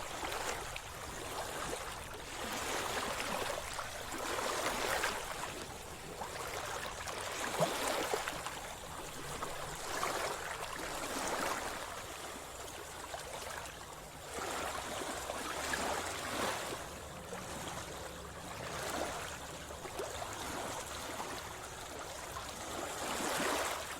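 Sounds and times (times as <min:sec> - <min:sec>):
seawater sloshing and splashing: 0:00.0 - 0:23.9.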